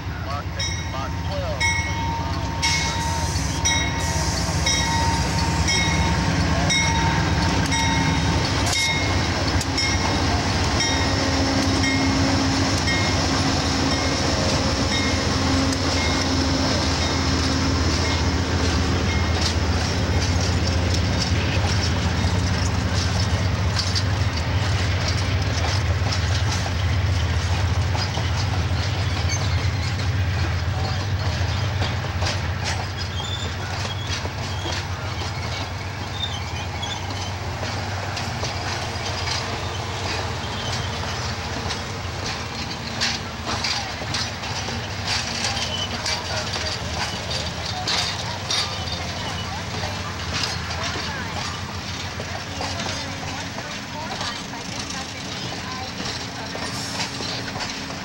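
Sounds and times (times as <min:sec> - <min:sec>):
diesel locomotive engine droning: 0:00.0 - 0:58.0
train wheels clattering on rails: 0:00.0 - 0:58.0.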